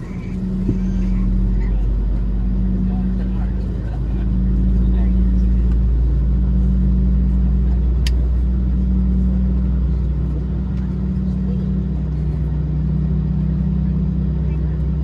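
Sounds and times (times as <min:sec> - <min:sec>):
aircraft cabin engine hum: 0:00.0 - 0:15.0.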